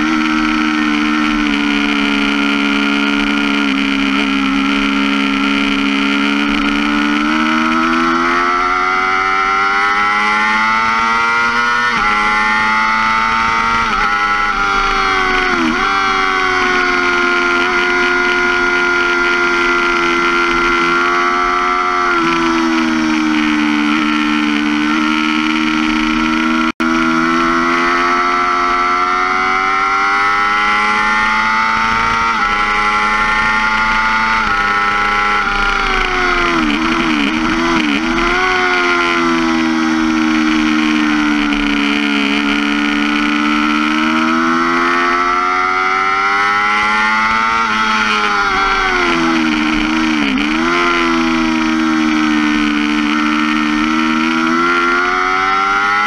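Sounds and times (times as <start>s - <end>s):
motorcycle engine revving high: 0.0s - 56.0s.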